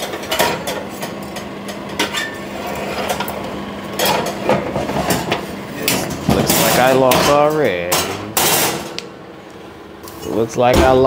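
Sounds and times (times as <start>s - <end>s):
metal spatula scraping oven rack: 0.0s - 9.0s
steady low hum: 0.0s - 11.0s.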